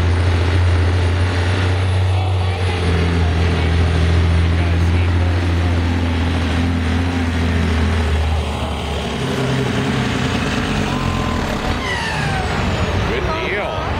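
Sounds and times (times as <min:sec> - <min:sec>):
diesel truck engine under load: 0:00.0 - 0:13.9.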